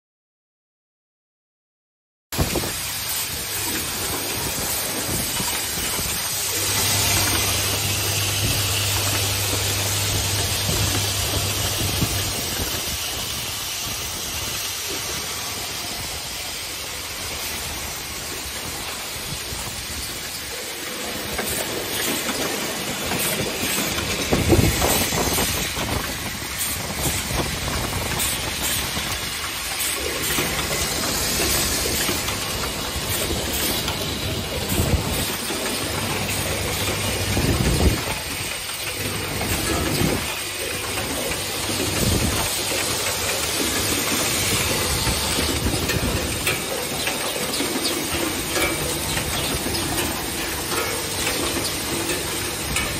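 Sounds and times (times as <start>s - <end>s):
machine clattering: 2.4s - 52.9s.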